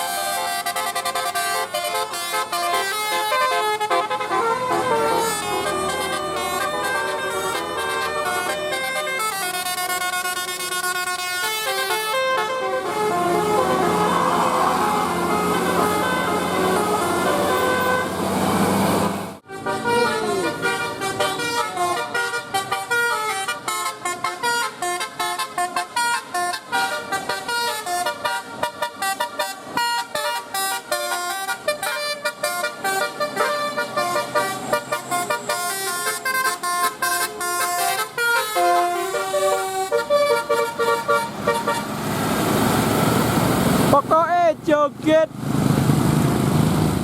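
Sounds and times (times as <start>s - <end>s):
multi-tone musical air horn: 0.0s - 18.4s, 19.4s - 41.9s.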